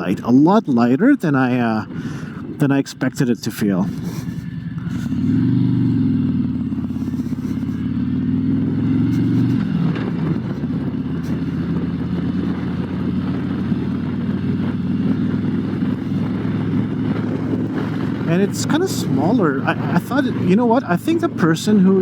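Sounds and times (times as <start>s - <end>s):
motorcycle engine running: 1.8s - 22.0s.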